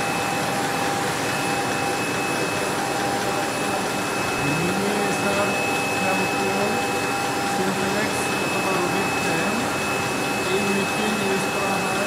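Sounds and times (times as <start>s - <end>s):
machine whining tones: 0.0s - 12.0s
spinning machinery whirring: 0.0s - 12.0s.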